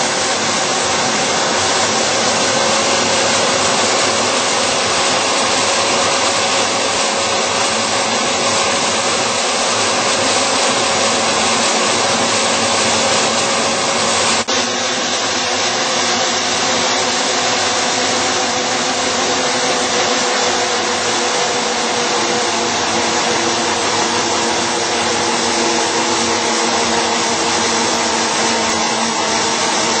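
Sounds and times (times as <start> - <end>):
machine hum tones: 0.0 - 30.0
metal slitting machine running: 0.0 - 30.0.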